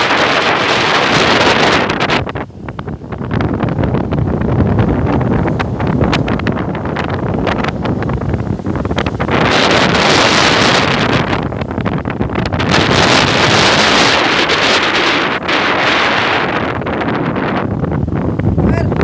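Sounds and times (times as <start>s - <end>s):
sea surf washing ashore: 0.0s - 19.0s
wind buffeting microphone: 0.0s - 19.0s.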